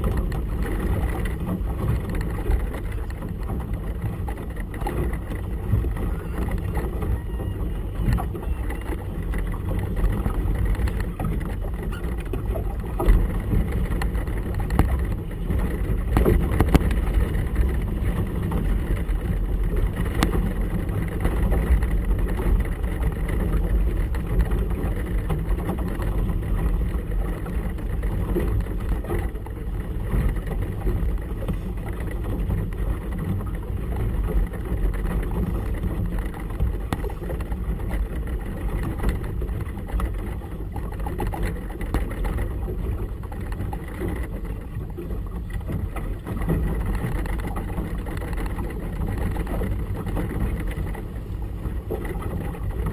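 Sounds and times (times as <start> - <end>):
choppy water around boat: 0.0 - 52.9
gusty wind: 0.0 - 52.9.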